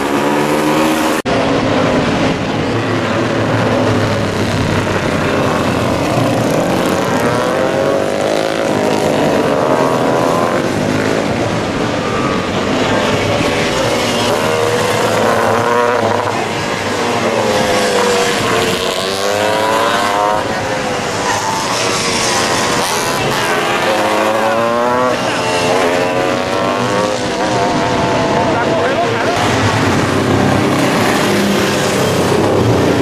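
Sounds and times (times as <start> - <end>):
racing motorcycles passing: 0.0 - 33.0.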